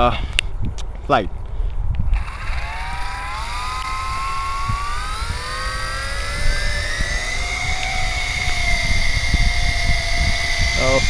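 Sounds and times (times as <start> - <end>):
quadcopter motors whining: 2.1 - 11.0.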